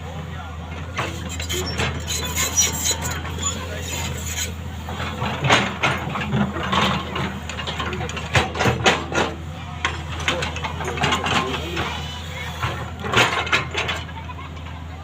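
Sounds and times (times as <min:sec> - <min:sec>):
diesel engine running at low revs: 0:00.0 - 0:15.0.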